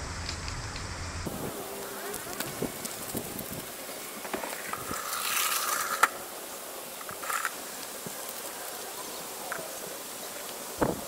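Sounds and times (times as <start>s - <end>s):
camping gear scraping and rustling: 1.3s - 10.3s.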